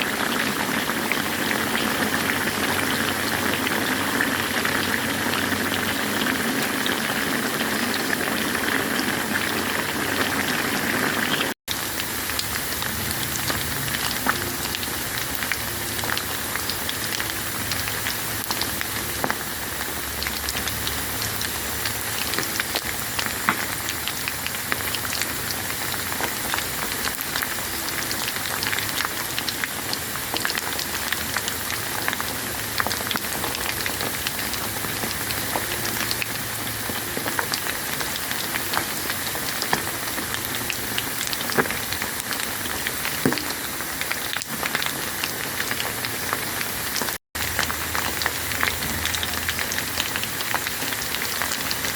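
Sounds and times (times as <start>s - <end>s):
chicken deep-frying in hot oil: 0.0s - 51.9s.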